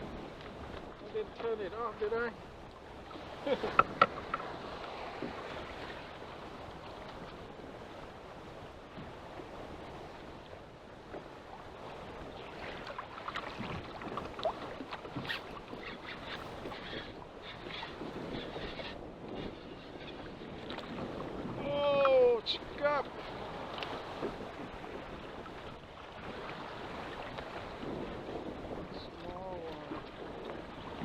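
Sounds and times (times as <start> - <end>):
choppy water: 0.0 - 31.0
wind: 0.0 - 31.0.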